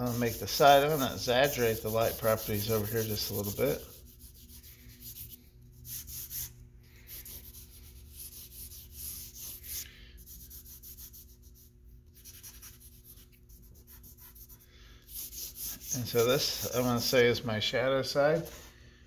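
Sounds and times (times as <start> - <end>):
charcoal scratching on paper: 0.0 - 17.0.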